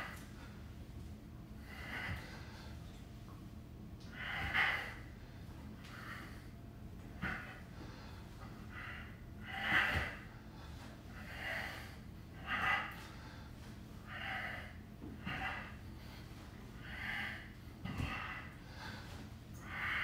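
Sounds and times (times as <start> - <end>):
man breathing hard: 1.6 - 3.1, 4.0 - 20.0.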